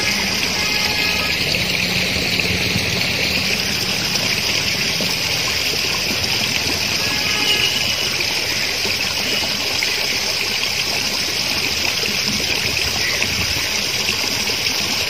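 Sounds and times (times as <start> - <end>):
water rushing over stone weir: 0.0 - 15.0.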